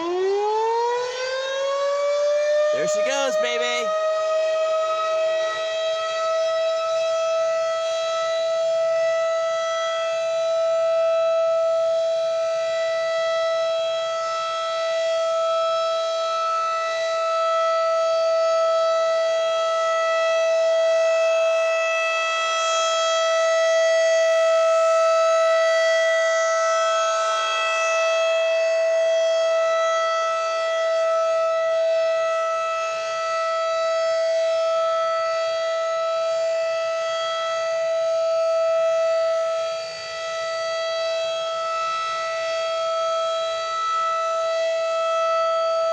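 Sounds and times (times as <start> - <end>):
warning siren steady tone: 0.0 - 45.9.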